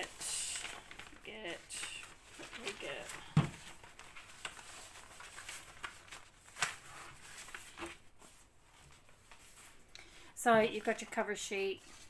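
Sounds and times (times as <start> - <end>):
plastic bag and paper rustling: 0.0 - 9.8.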